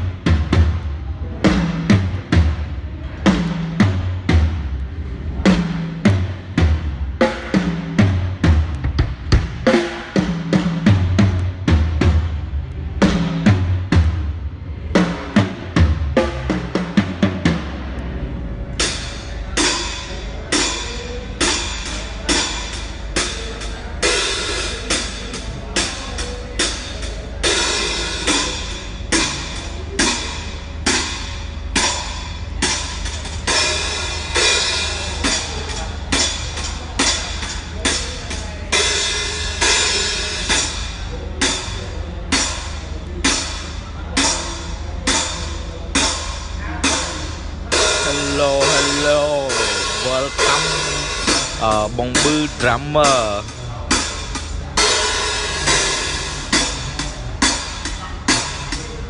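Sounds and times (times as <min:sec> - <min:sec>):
cymbal and drum strikes: 0:00.0 - 0:18.1, 0:18.7 - 0:59.0
drum kit playing: 0:00.0 - 0:59.0
steady low hum: 0:00.0 - 0:59.0.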